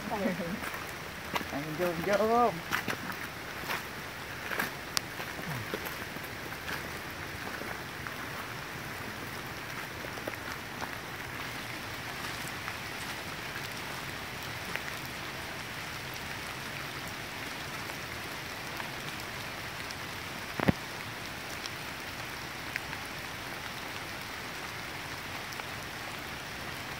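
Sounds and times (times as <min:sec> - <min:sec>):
forest hiss: 0:00.0 - 0:26.9.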